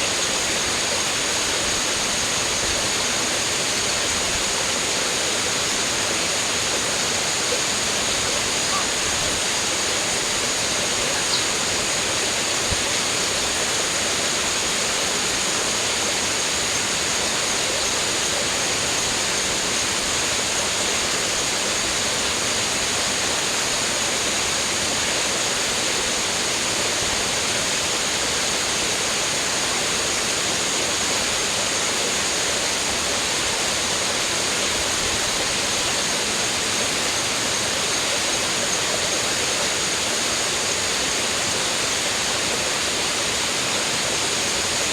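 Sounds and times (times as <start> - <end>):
rushing running water: 0.0 - 44.9.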